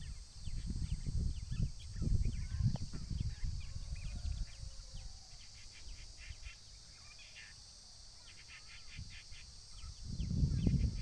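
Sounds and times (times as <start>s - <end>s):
songbirds chirping: 0.0s - 11.0s
steady high hiss: 0.0s - 11.0s.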